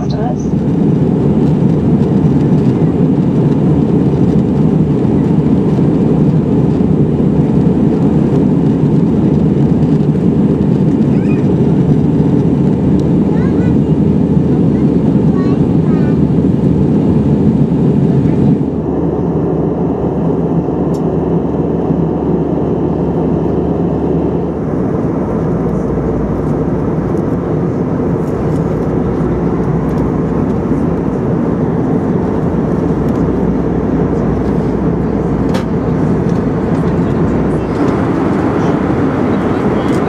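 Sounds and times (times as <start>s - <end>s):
aircraft cabin rumble: 0.0s - 40.0s.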